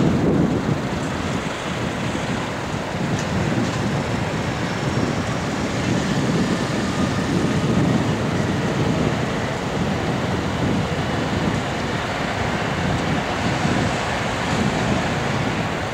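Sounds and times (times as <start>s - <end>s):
monorail train rumbling past: 0.0s - 15.9s.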